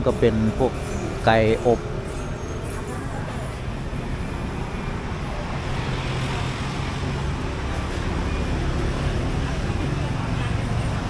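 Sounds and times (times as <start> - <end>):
street noise: 0.0 - 11.0
traffic engine rumble: 0.0 - 11.0.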